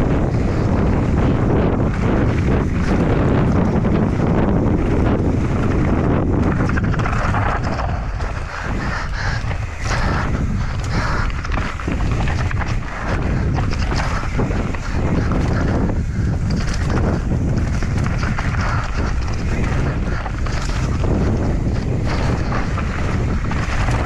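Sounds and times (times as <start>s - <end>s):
mountain bike rumbling and rattling: 0.0s - 24.0s
wind buffeting a microphone: 0.0s - 24.0s.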